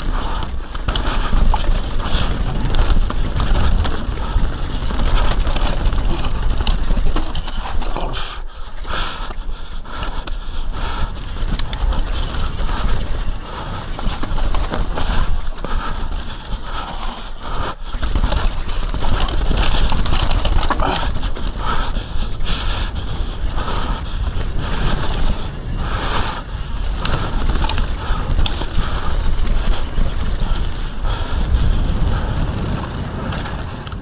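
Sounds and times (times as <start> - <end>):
wind buffeting microphone: 0.0 - 7.7, 9.5 - 34.0
bike rattling: 0.0 - 34.0.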